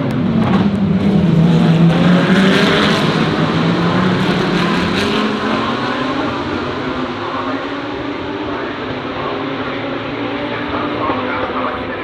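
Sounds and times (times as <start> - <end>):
race car engines running: 0.0 - 12.0.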